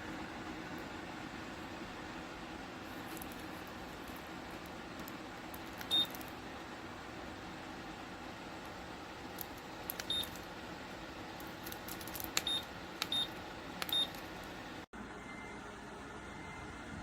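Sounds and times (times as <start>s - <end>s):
fan heater noise: 0.0s - 17.0s
steady hum: 0.0s - 17.0s.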